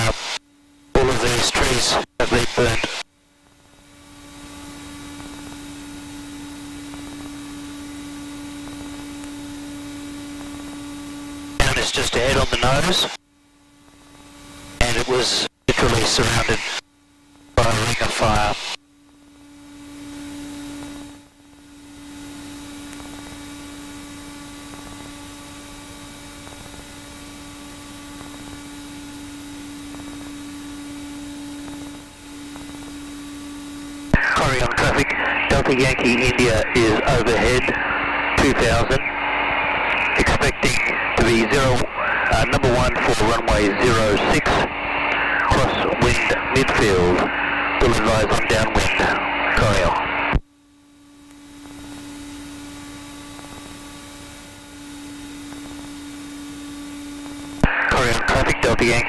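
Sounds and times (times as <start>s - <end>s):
aircraft cockpit hum: 0.0s - 59.0s.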